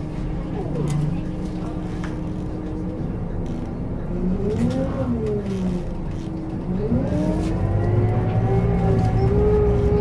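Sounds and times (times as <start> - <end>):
bus engine whining: 0.0 - 10.0.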